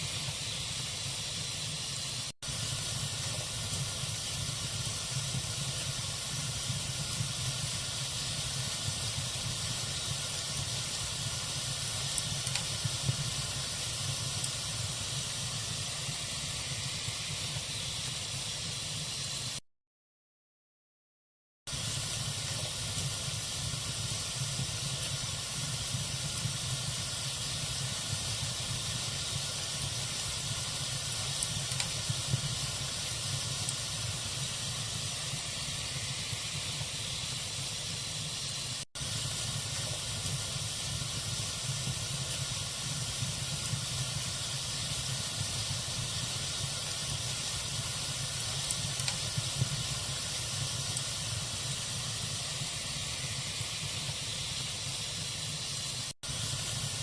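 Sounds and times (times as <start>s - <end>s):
wood fire burning: 0.0s - 19.1s, 21.7s - 57.0s.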